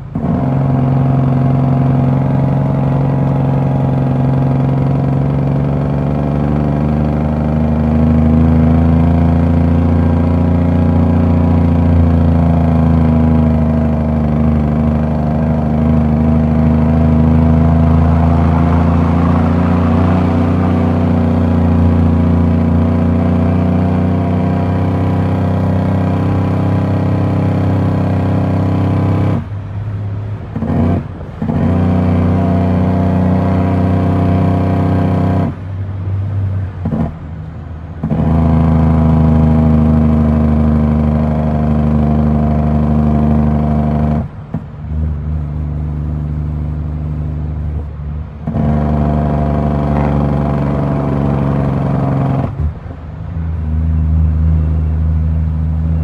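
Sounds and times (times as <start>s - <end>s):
diesel truck engine from cab: 0.0s - 56.0s.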